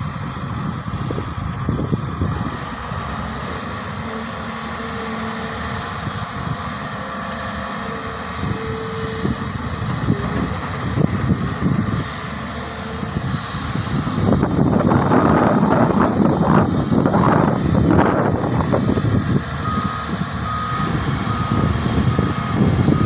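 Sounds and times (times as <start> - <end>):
excavator diesel engine running: 0.0 - 23.0
wind rumbling on microphone: 0.0 - 23.0.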